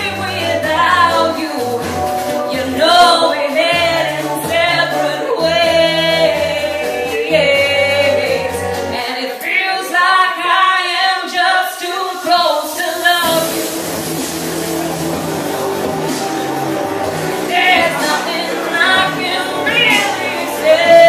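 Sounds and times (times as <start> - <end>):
woman singing: 0.0 - 13.6, 17.4 - 21.0.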